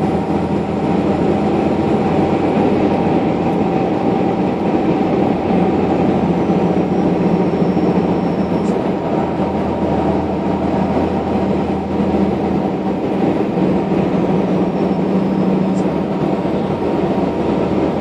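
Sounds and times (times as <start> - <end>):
car cabin engine and road drone: 0.0 - 18.0.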